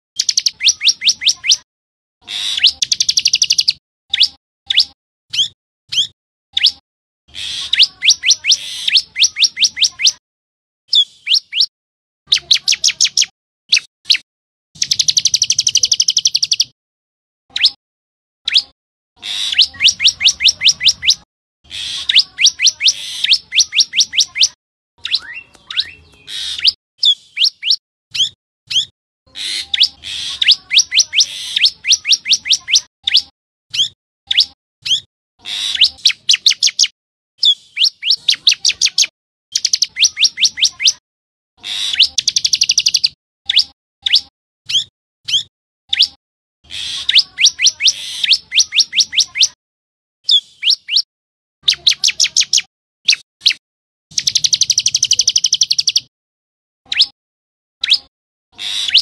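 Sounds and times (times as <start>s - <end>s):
bird calling high repeated notes: 0.2s - 1.6s, 2.2s - 10.2s, 10.9s - 11.7s, 12.3s - 14.2s, 14.8s - 16.7s, 18.5s - 41.0s, 41.6s - 49.6s, 50.2s - 56.1s, 56.9s - 57.2s, 57.8s - 59.0s.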